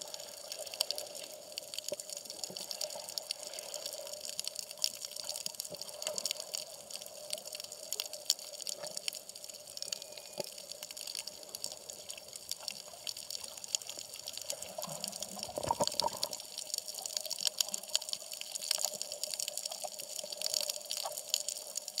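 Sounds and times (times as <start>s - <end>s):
water noise: 0.0s - 22.0s
underwater crackle of clicks: 0.1s - 22.0s.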